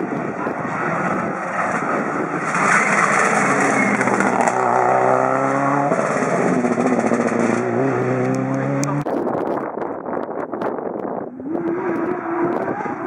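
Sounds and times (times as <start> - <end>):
rally car engine at high revs: 0.0 - 9.1, 11.3 - 13.0.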